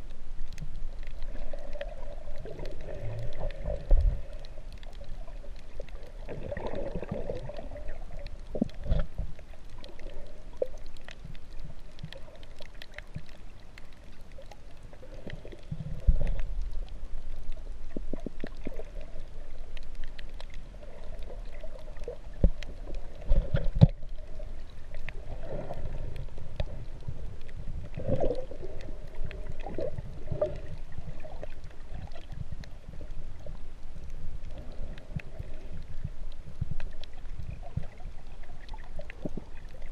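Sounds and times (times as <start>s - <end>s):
underwater water sloshing and gurgling: 0.0s - 39.9s.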